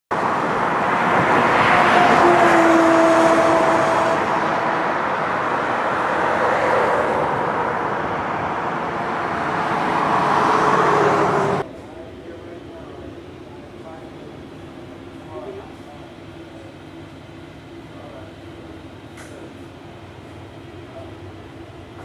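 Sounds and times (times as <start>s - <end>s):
vehicles passing: 0.1s - 22.0s.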